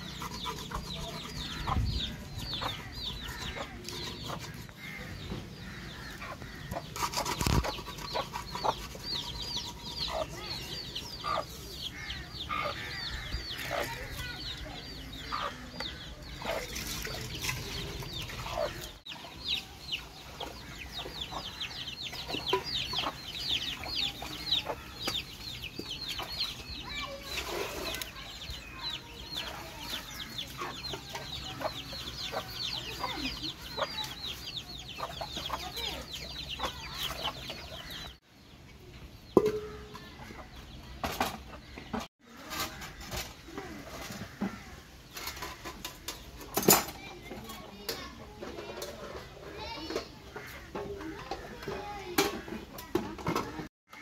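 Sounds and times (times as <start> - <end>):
chickens clucking and peeping: 0.0 - 54.0.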